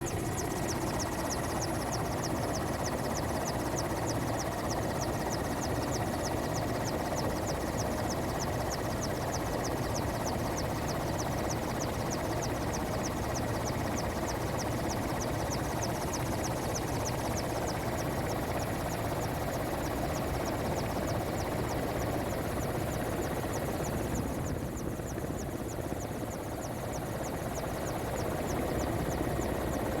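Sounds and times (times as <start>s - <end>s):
helicopter engine and rotor noise: 0.0s - 30.0s.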